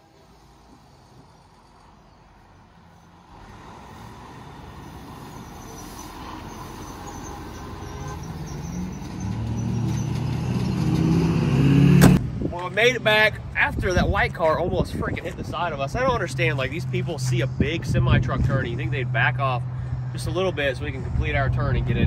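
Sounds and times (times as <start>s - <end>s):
diesel truck engine: 0.0s - 22.0s.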